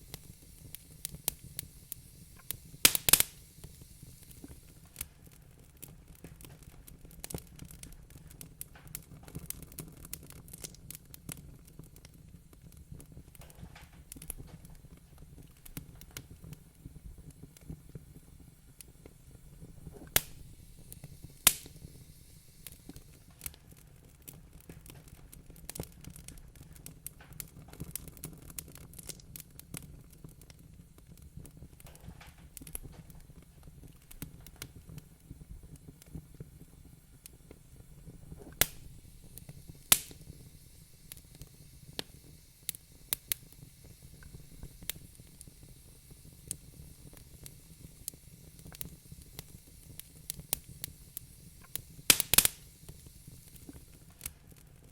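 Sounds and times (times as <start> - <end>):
low rumble of fire: 0.0 - 54.9
sharp fire pops: 0.0 - 54.9
wood fire crackling: 0.0 - 54.9.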